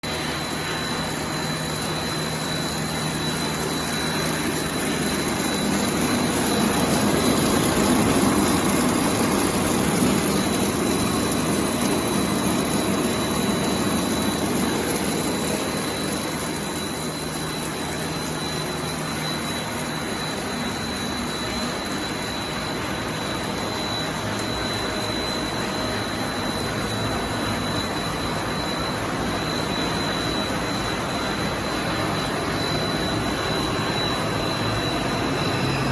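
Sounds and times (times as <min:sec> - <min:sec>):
high machine whine: 0:00.0 - 0:35.9
low machine hum: 0:00.0 - 0:35.9
production line machinery din: 0:00.0 - 0:35.9.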